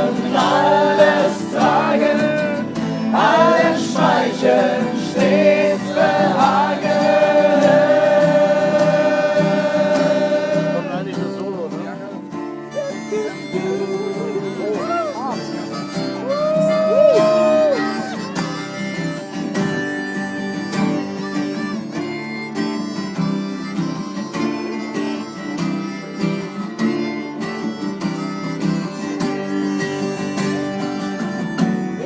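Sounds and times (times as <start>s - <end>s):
acoustic guitar strumming: 0.0s - 32.0s
instrumental solo melody: 6.0s - 32.0s.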